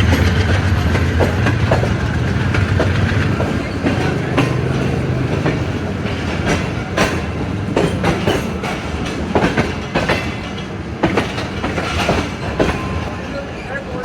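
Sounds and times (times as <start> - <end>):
train rumble: 0.0 - 14.0
train wheels clicking over rail joints: 0.0 - 14.0.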